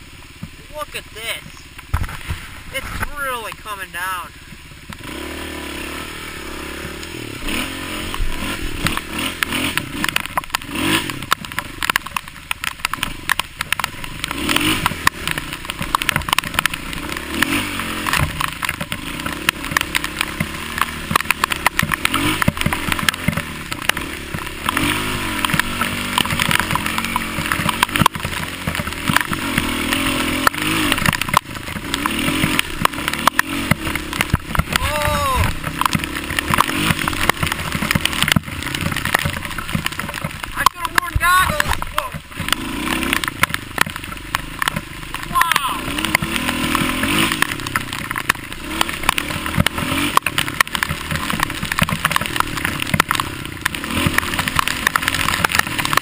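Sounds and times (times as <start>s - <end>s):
bike knocking and rattling: 0.0s - 56.0s
dirt bike engine revving: 0.0s - 56.0s.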